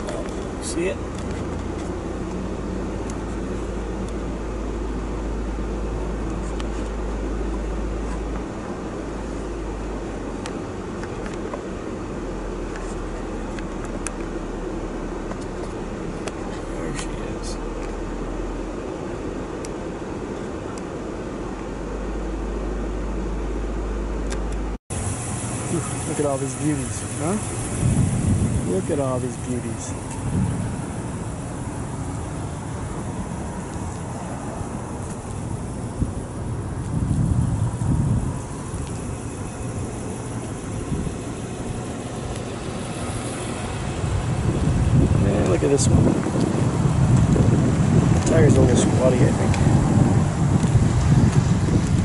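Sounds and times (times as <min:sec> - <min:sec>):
low engine and road rumble: 0:00.0 - 0:52.0.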